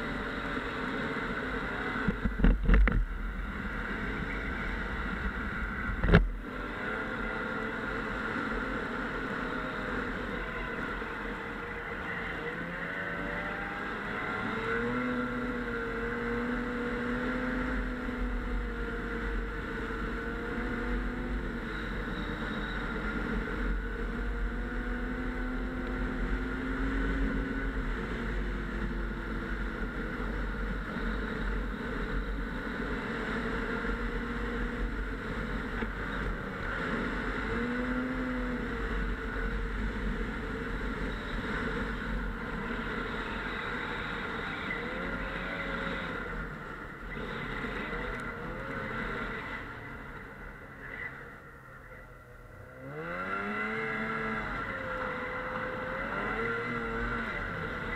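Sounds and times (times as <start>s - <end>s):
snowmobile engine running: 0.0s - 50.8s, 52.7s - 57.9s.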